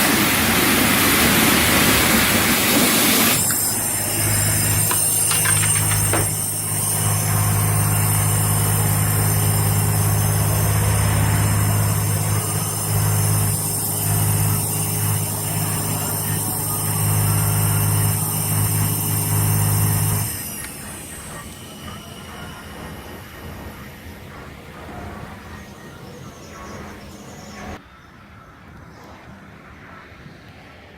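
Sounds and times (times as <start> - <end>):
car wash machinery hum: 0.0 - 27.8
high whine: 0.0 - 28.4.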